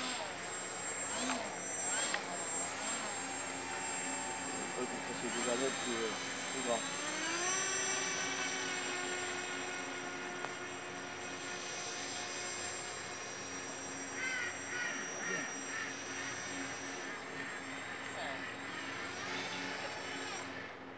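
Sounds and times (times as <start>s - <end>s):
model boat motor whining: 0.0s - 20.9s.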